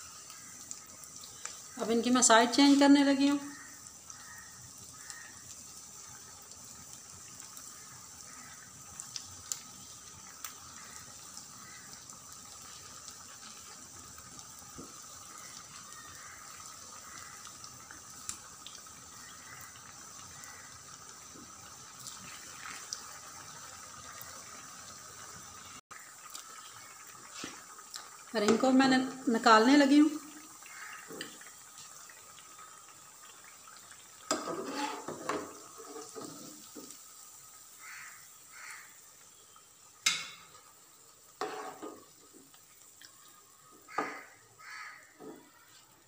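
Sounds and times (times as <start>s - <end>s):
food deep-frying in oil: 0.0s - 46.0s.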